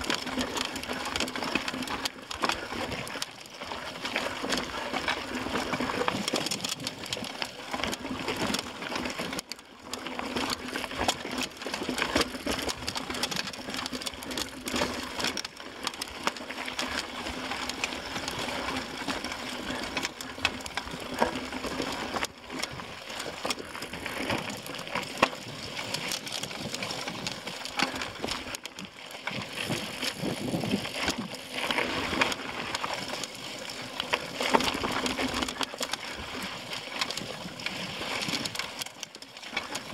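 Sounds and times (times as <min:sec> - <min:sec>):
bike rattling: 0:00.0 - 0:39.9
bike tyres crunching over stones: 0:00.0 - 0:39.9.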